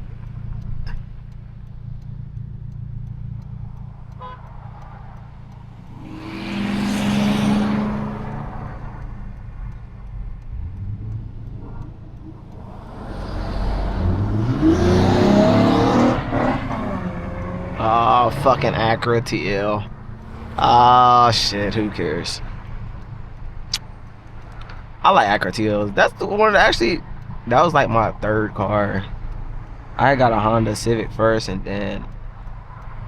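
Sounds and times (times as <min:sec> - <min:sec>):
car engine drone: 0:00.0 - 0:33.0.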